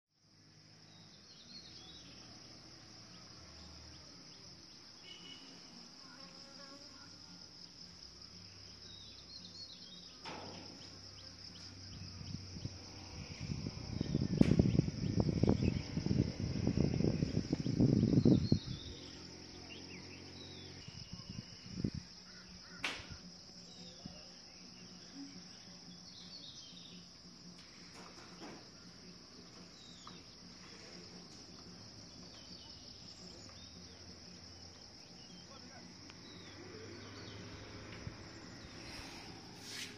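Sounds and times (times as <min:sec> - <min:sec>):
insects chirring: 0:00.2 - 0:39.9.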